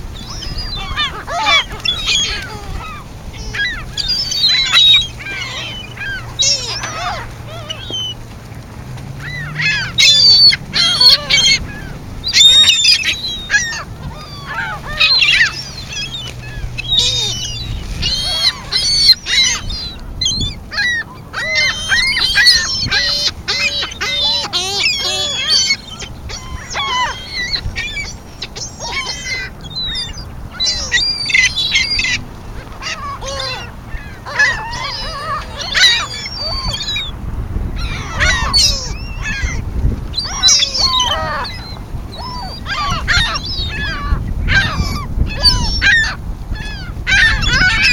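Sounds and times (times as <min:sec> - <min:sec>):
birds squawking and honking: 0:00.0 - 0:47.9.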